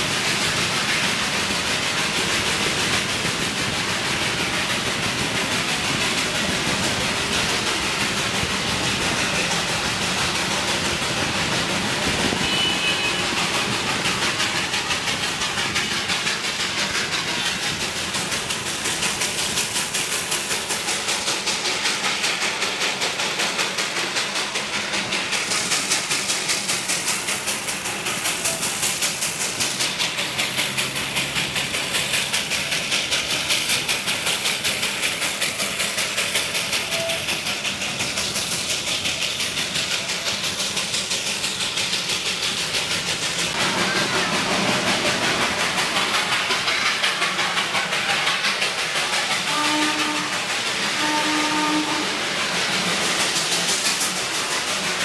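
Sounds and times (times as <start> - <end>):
steam hiss: 0.0 - 55.0
steam locomotive chuffing: 0.0 - 55.0
train running rumble: 0.0 - 55.0.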